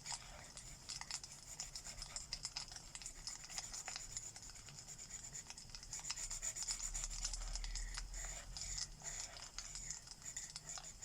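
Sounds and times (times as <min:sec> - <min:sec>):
marker scratching on paper: 0:00.1 - 0:02.3, 0:03.0 - 0:11.0.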